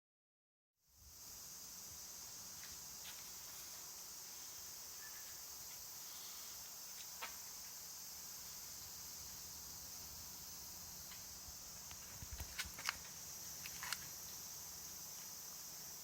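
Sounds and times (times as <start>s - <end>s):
high hiss: 0.8s - 16.0s.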